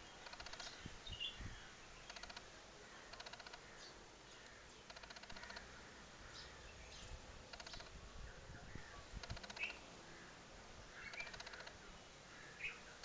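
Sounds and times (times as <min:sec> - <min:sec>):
bird chirping trills: 0:00.0 - 0:08.0, 0:08.7 - 0:13.0.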